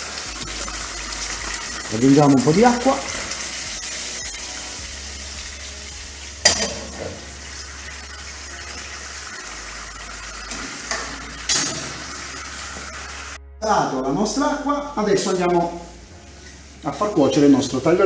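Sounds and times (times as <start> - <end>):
sauce sizzling in a frying pan: 0.0 - 13.4, 15.7 - 18.0.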